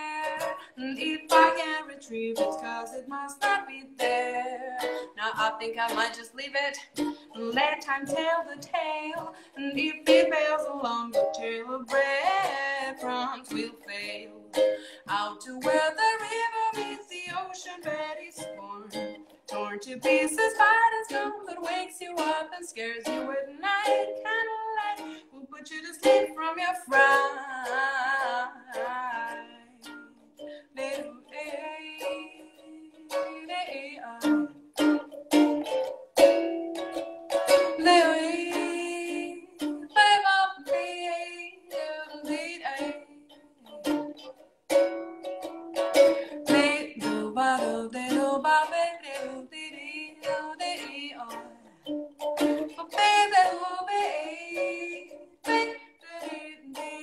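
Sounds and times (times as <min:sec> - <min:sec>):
woman singing: 0:00.0 - 0:35.1, 0:37.5 - 0:44.1, 0:46.0 - 0:57.0
ukulele strumming: 0:00.0 - 0:57.0.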